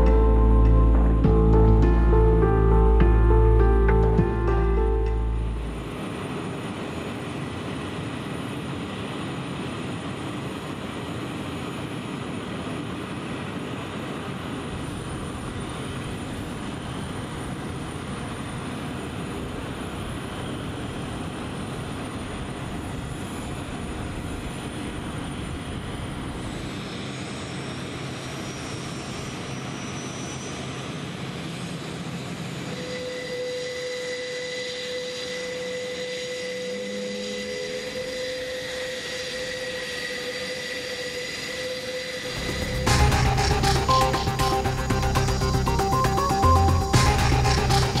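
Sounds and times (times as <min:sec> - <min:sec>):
turboprop engines running: 0:00.0 - 0:48.0.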